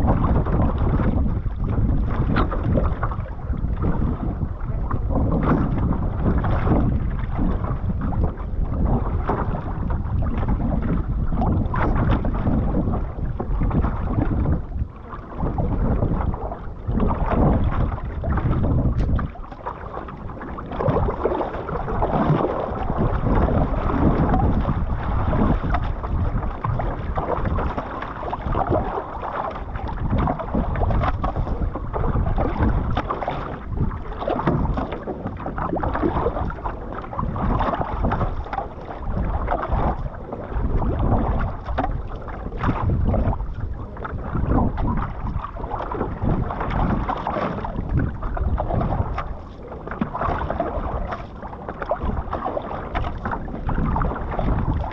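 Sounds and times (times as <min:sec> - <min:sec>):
paddle pulling through water: 0:00.0 - 0:54.9
water rushing against hull: 0:00.0 - 0:54.9.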